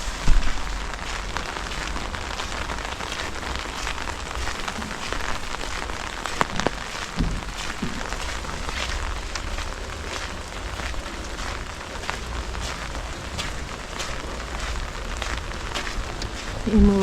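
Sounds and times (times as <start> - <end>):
rain pattering: 0.0 - 17.0
louder raindrop taps: 0.2 - 17.0.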